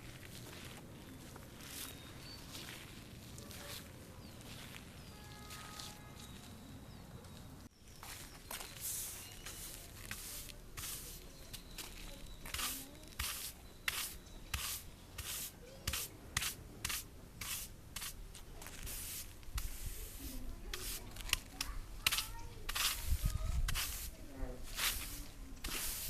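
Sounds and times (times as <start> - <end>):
gritty scrapes on sand: 0.0 - 6.3, 8.1 - 26.0.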